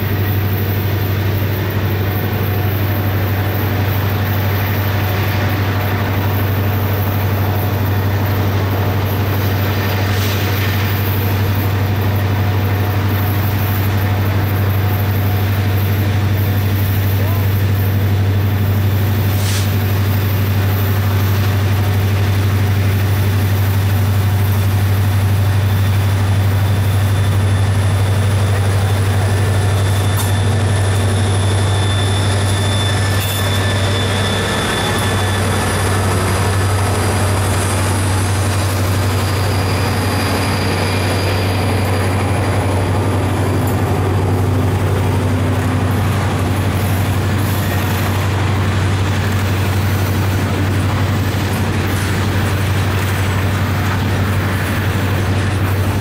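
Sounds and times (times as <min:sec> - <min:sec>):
steel wheels rumbling on rail: 0:00.0 - 0:56.0
faint high wheel squeal: 0:00.1 - 0:56.0.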